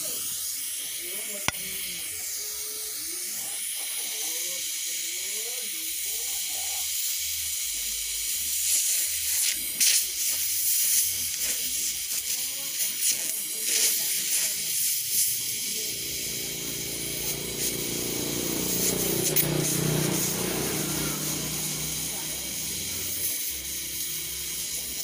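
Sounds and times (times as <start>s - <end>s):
torch flame hissing: 0.0s - 25.0s.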